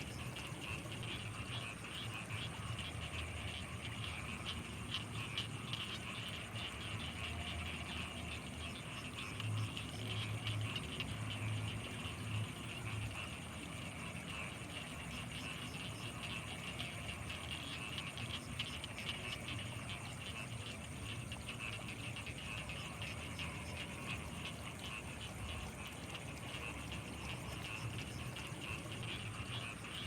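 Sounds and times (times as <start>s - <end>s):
frogs pulsing chorus: 0.0s - 30.0s.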